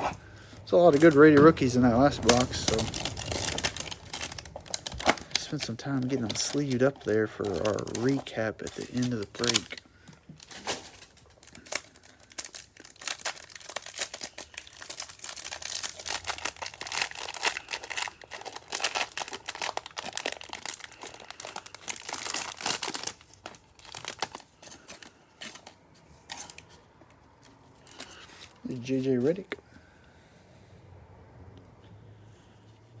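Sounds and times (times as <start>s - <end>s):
plastic wrapper crinkling and tearing: 0.0s - 29.5s.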